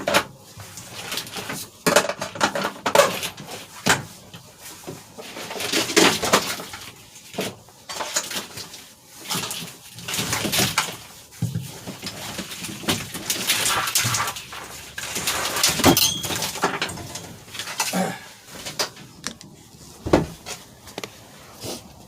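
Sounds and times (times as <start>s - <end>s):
wiring harness rustling and clicking: 0.0s - 19.6s.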